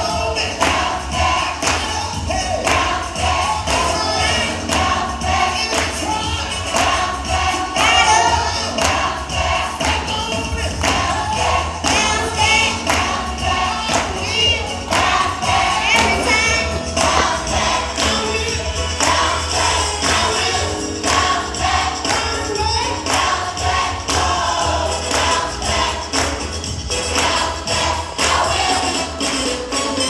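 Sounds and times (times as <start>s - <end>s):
group singing gospel: 0.0s - 30.0s
live band accompaniment: 0.0s - 30.0s
percussion steady beat: 0.0s - 30.0s.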